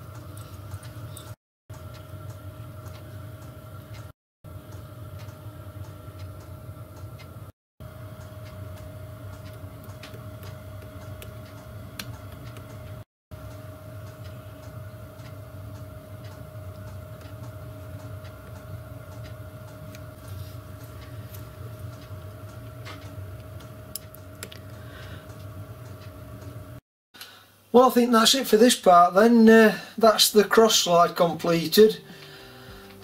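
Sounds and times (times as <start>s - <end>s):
steady hum: 0.0s - 26.8s, 29.2s - 33.0s.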